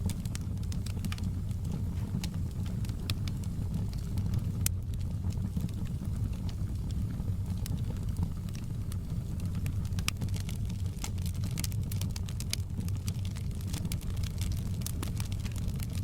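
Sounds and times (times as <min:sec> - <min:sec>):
fire low rumble: 0:00.0 - 0:16.0
log fire crackling and popping: 0:00.0 - 0:16.0.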